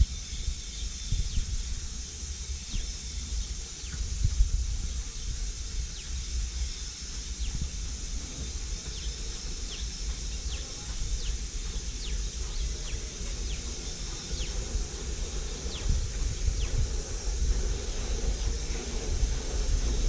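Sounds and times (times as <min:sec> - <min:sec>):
steady high hiss: 0:00.0 - 0:20.0
wind rumbling on microphone: 0:00.0 - 0:20.0.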